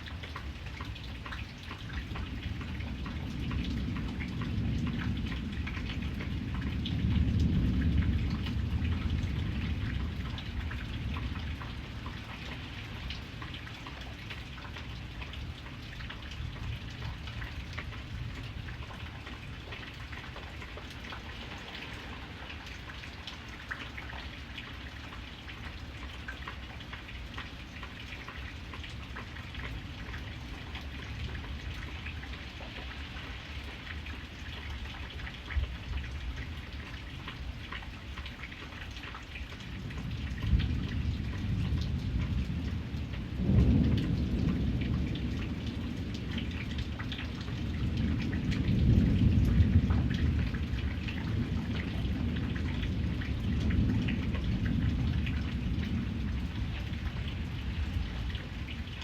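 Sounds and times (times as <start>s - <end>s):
rain drops ticking on hard surface: 0.0s - 59.0s
low rumble of thunder: 0.1s - 59.0s.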